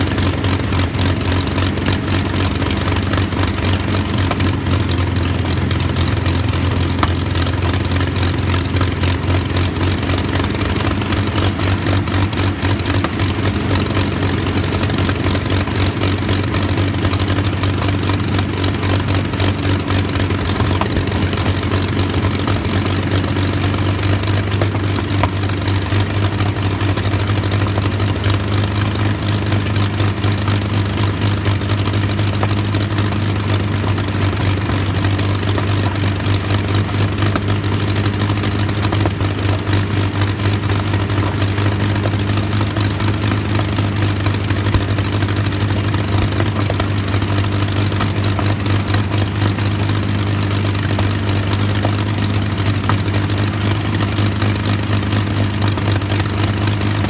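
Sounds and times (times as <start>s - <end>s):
propeller aircraft engine droning: 0.0s - 57.0s.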